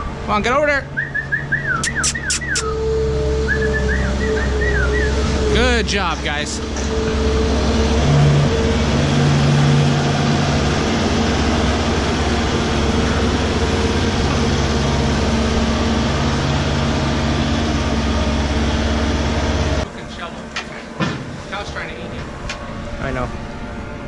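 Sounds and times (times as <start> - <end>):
skid-steer loader engine running: 0.0 - 24.0.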